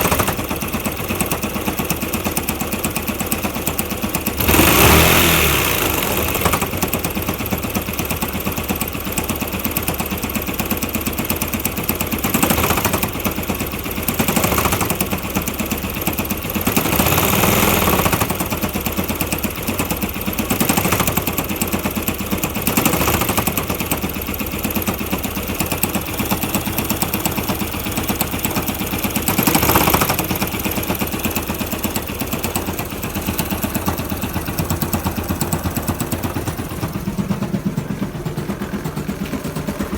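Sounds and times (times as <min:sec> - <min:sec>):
motorcycle engine idling with knocking: 0:00.0 - 0:39.9.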